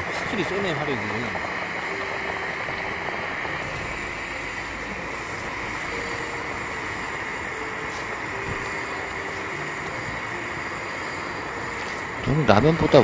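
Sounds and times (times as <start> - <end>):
pressure burner rushing: 0.0 - 13.0.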